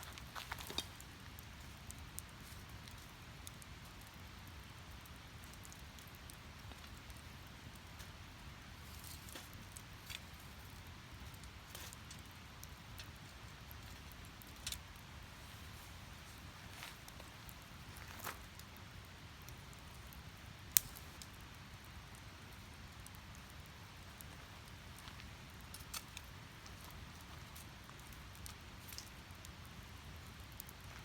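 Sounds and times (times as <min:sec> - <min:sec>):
fire burning with crackles: 0:00.0 - 0:31.0.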